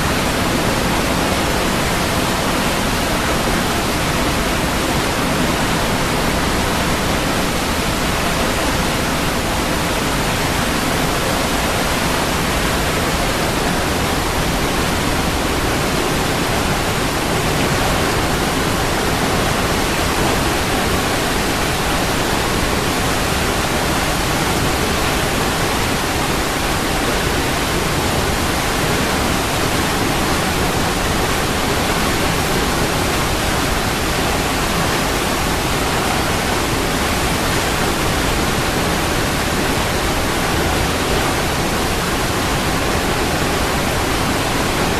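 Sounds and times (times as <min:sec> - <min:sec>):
waterfall roar: 0:00.0 - 0:44.9.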